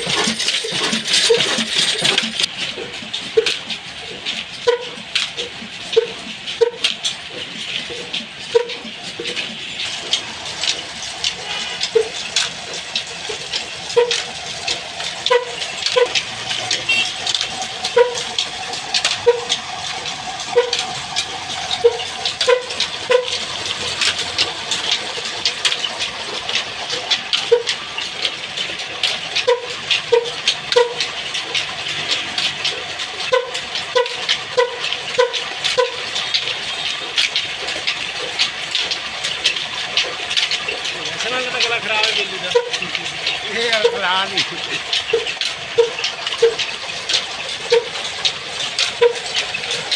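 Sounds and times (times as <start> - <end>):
diesel engine clattering: 0.0 - 49.9.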